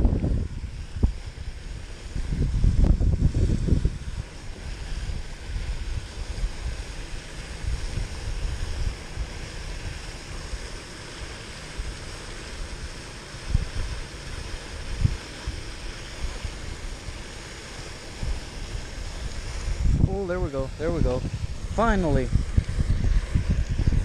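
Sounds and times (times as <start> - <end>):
wind buffeting microphone: 0.0 - 10.7, 12.6 - 24.0
steady hiss: 0.0 - 24.0.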